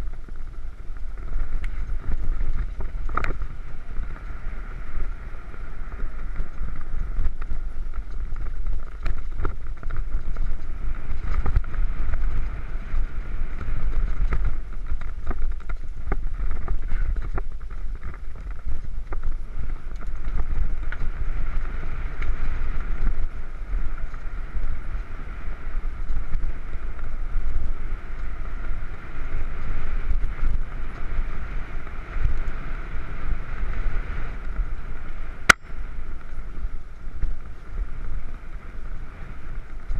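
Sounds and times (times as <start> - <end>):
bike rolling on dirt: 0.0 - 39.9
wind buffeting microphone: 0.0 - 39.9.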